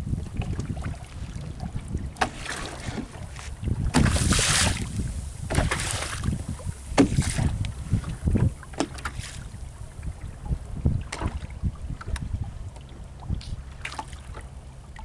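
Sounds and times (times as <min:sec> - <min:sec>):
water splashing against boat hull: 0:00.0 - 0:15.0
wind buffeting microphone: 0:00.0 - 0:15.0.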